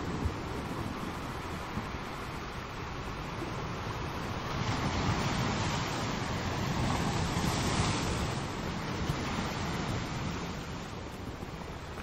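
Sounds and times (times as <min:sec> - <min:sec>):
ocean surf on rocks: 0:00.0 - 0:12.0.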